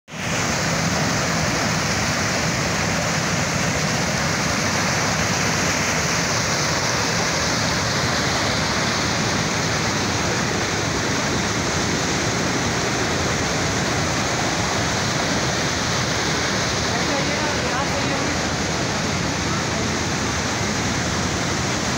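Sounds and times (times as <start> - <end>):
river rushing over rocks: 0.1 - 21.9.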